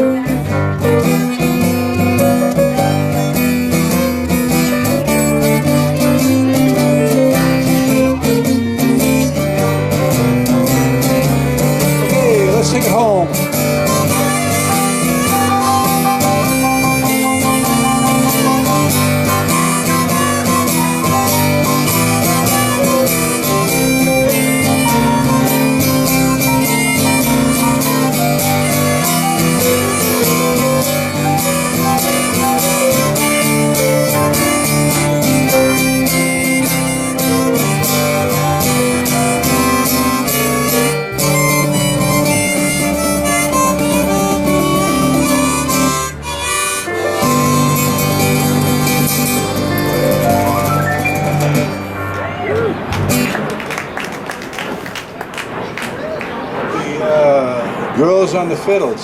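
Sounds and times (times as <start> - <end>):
fiddles playing melody: 0.0 - 53.2
bass: 0.0 - 53.5
acoustic guitar: 0.0 - 53.7.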